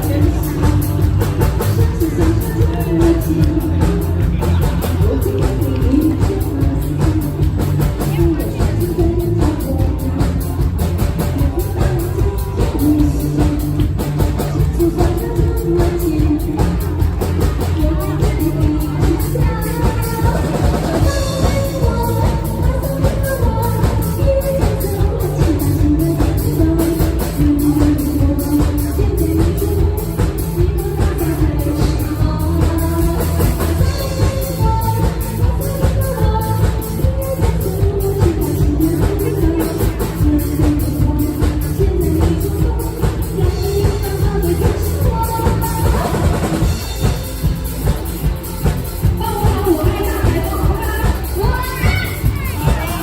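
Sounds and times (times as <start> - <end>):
bass: 0.0 - 53.0
drum kit beat: 0.0 - 53.0
live band music: 0.0 - 53.0.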